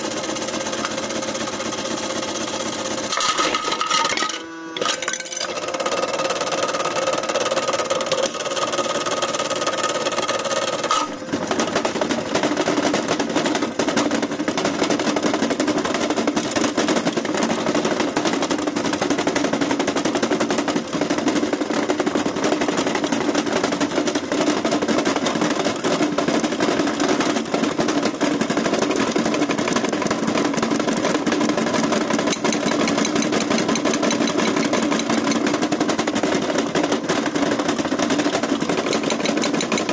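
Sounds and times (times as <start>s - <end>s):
washing machine rattling and knocking: 5.2s - 39.9s.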